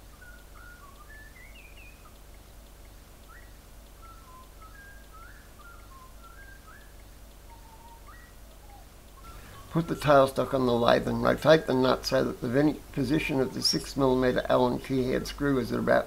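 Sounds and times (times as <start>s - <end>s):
bird singing whistled notes: 0.0s - 2.2s, 3.3s - 11.9s, 13.0s - 16.0s
steady low hum: 0.0s - 16.0s.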